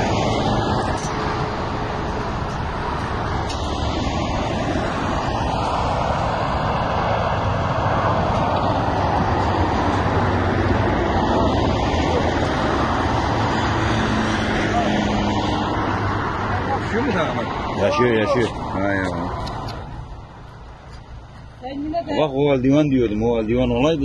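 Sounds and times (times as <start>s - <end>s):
roadside traffic rumble and hiss: 0.0s - 24.0s.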